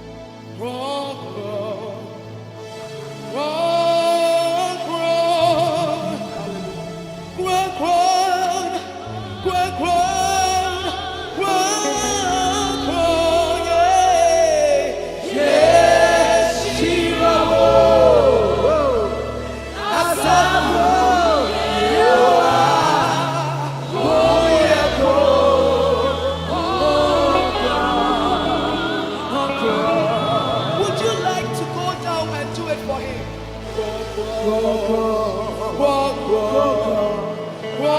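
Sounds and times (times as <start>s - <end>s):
gospel singing with vibrato: 0.0s - 37.9s
sustained bass accompaniment: 5.0s - 37.9s.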